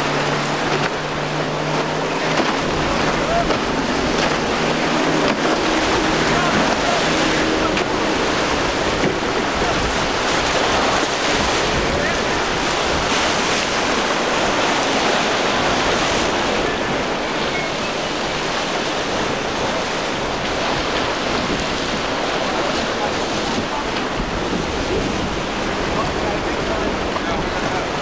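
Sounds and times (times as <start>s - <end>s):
ocean surf and waves: 0.0s - 28.0s
wind buffeting microphone: 0.0s - 28.0s.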